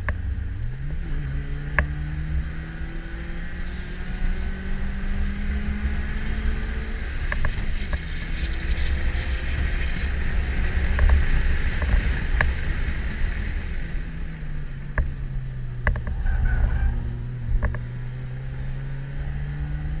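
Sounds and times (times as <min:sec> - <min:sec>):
car engine under load: 0:00.0 - 0:20.0
road and tyre rumble: 0:00.0 - 0:20.0.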